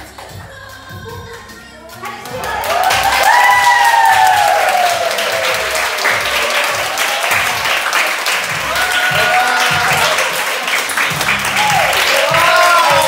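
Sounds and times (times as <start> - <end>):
people clapping: 1.4 - 13.0.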